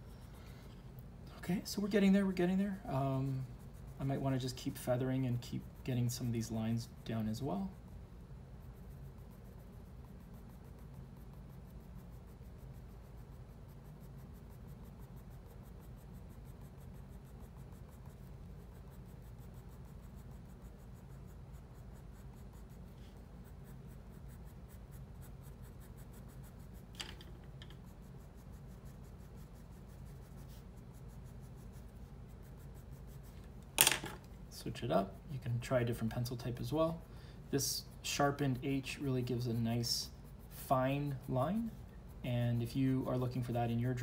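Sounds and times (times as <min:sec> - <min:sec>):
pencil scratching on paper: 0:00.0 - 0:00.8, 0:01.4 - 0:34.0, 0:34.8 - 0:44.0
steady low hum: 0:00.0 - 0:44.0.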